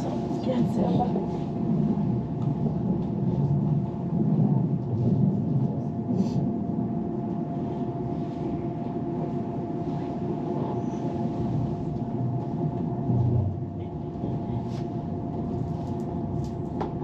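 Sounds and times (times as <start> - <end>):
constant humming tone: 0.0 - 17.0
train rumble: 0.0 - 17.0.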